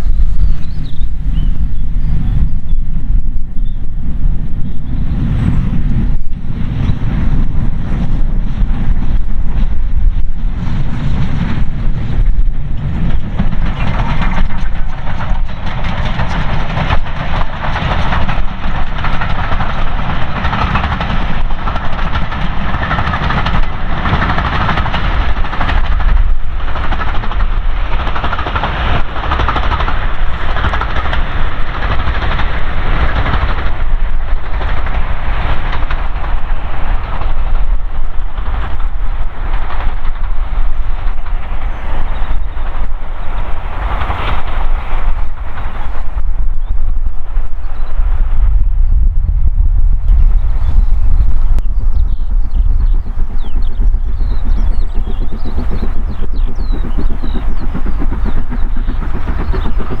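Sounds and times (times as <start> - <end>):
steam train passing: 0.0 - 60.0.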